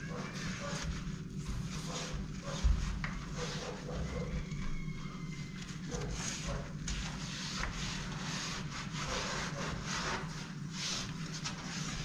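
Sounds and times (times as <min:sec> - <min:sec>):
hand rubbing metal window frame: 0:00.0 - 0:12.0.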